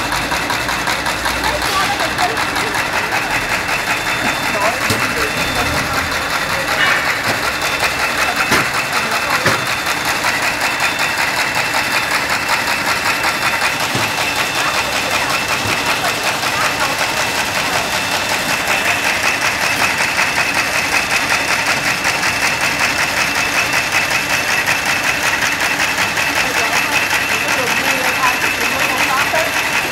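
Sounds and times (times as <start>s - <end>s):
paper folding machine clatter: 0.0s - 29.9s.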